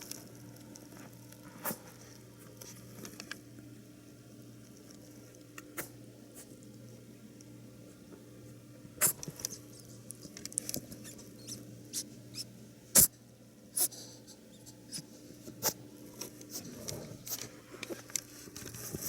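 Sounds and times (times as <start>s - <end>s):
rabbit nibbling pellets: 0.0s - 19.0s.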